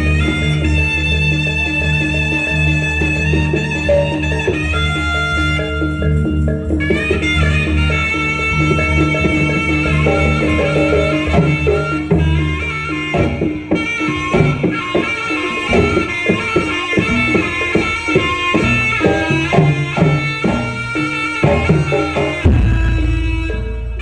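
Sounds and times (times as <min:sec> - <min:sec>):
fast hand drum strokes: 0:00.0 - 0:24.0
pitched percussion: 0:00.0 - 0:24.0
reedy wind instrument melody: 0:00.0 - 0:24.0.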